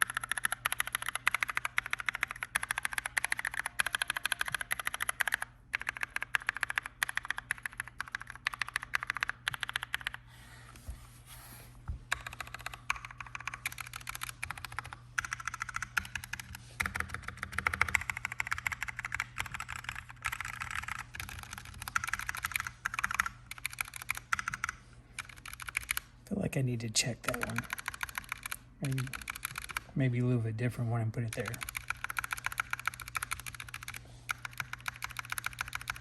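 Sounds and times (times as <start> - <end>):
fast mechanical keyboard typing: 0.0 - 10.2, 12.1 - 26.1, 27.2 - 30.2, 31.2 - 36.0.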